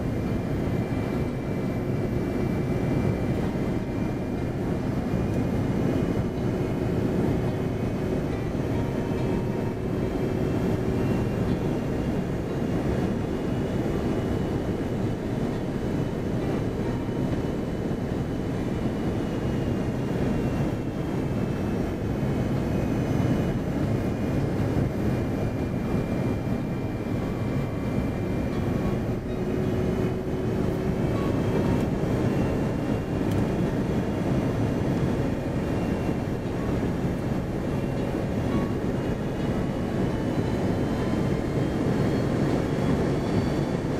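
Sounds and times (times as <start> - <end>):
engine and airflow roar: 0.0 - 43.9
faint high whine: 0.0 - 43.9.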